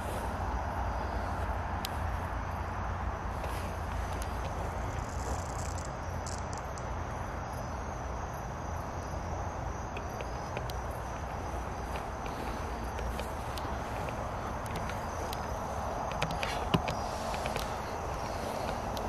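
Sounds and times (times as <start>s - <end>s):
crickets and night insects: 0.0s - 19.0s.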